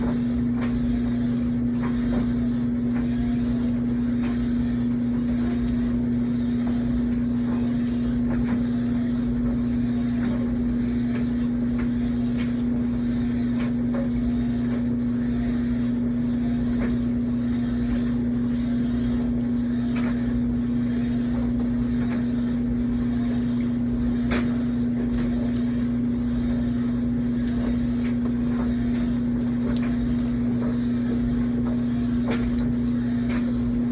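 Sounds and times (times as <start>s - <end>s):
washing machine low hum: 0.0s - 33.9s.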